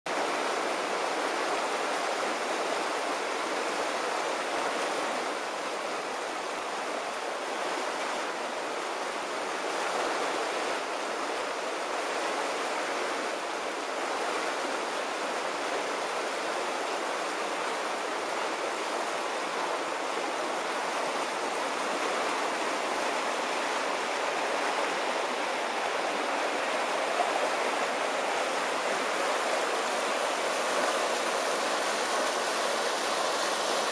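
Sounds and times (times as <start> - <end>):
floodwater rushing: 0.1 - 33.9.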